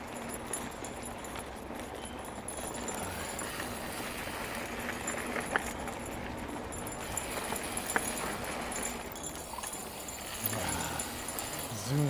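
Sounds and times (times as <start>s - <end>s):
bike rattle: 0.0s - 12.0s
bike tyres rolling on dirt trail: 0.0s - 12.0s.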